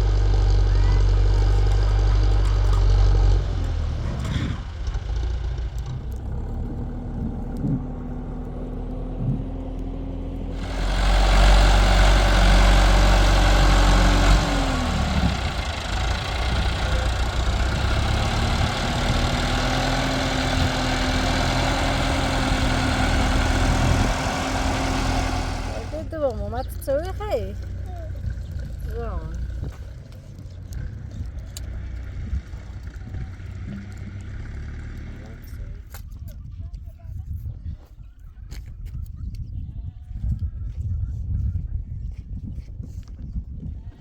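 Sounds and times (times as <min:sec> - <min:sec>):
tractor engine running: 0:00.0 - 0:36.5.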